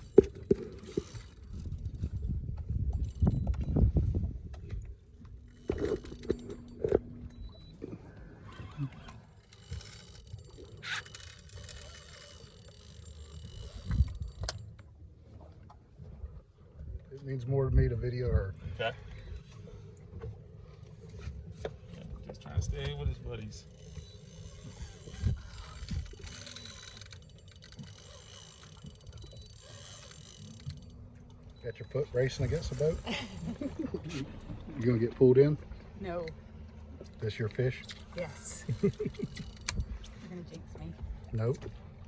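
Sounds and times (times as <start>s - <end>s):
boat rumbling on water: 0.0s - 42.0s.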